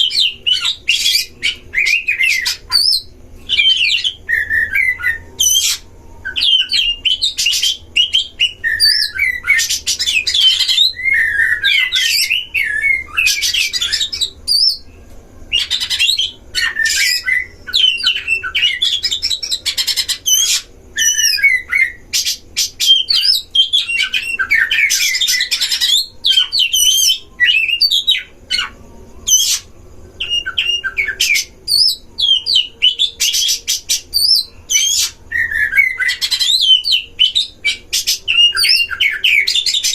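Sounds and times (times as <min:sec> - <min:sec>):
bird song: 0:00.0 - 0:39.9.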